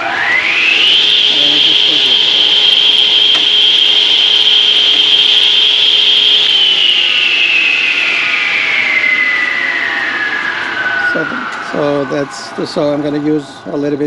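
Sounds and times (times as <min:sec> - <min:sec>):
wet saw whining: 0:00.0 - 0:13.4.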